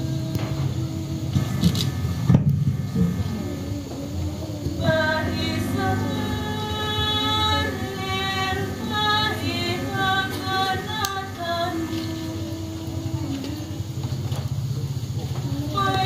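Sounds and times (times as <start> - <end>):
woman singing long notes: 0.0 - 14.6, 15.2 - 16.0.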